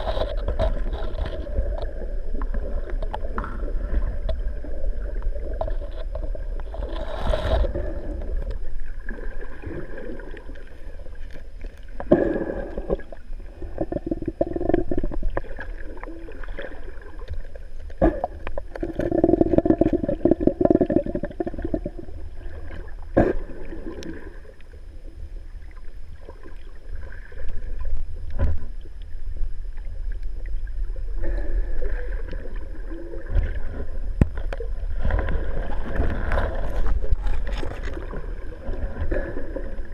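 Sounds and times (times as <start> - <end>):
gurgling bubbles: 0.0 - 29.0, 29.7 - 39.9
underwater rumble of moving water: 0.0 - 39.9.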